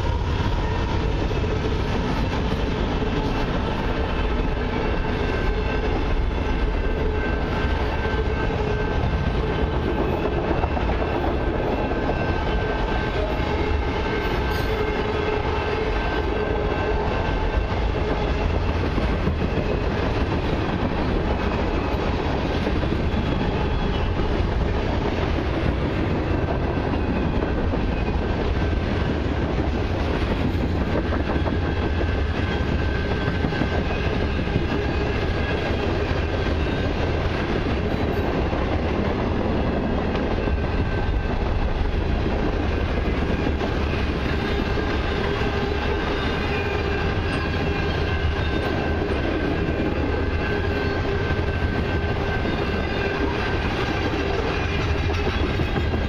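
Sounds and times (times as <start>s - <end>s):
clickety-clack over rail joints: 0.0s - 56.0s
train wheels on rail: 0.0s - 56.0s.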